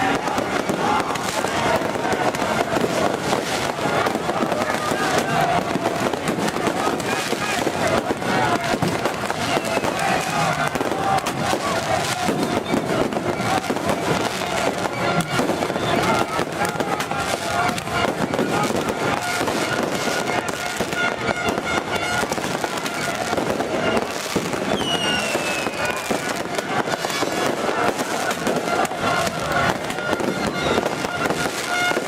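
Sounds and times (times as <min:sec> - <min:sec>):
falling firework whistle: 0:00.0 - 0:32.0
fireworks crackling bursts: 0:00.0 - 0:32.0
voices: 0:00.0 - 0:32.0.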